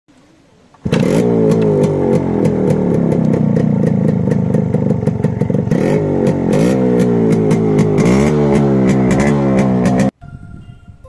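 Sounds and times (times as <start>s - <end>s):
two-stroke motorcycle engine revving: 0.8s - 10.2s.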